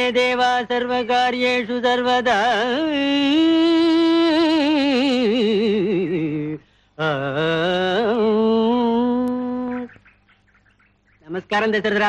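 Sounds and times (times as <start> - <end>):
person singing devotional chant: 0.0 - 10.0.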